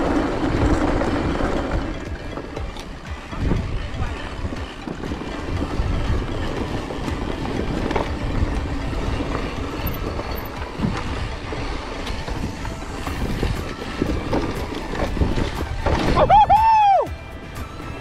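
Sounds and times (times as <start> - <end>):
bike rattling and knocking: 0.0 - 18.0
bike tyres rumbling on rough track: 0.0 - 18.0.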